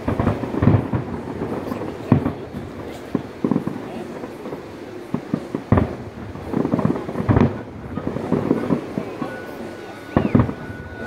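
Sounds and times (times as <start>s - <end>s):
distant fireworks bursting: 0.0s - 11.0s.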